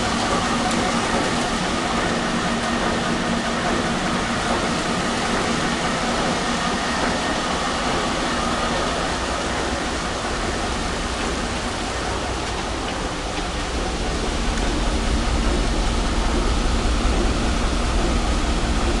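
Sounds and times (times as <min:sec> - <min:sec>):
machinery running: 0:00.0 - 0:19.0.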